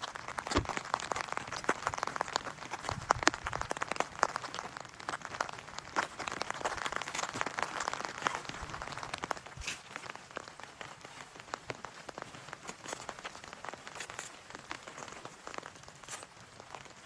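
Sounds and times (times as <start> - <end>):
raindrops tapping on surface: 0.0 - 17.0
steady rain patter: 0.0 - 17.0.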